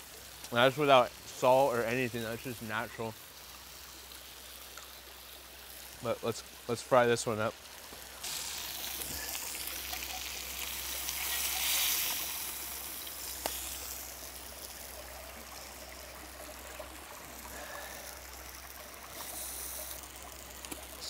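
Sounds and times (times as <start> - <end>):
food sizzling in oil: 0.0 - 21.0
stream flowing: 0.0 - 21.0.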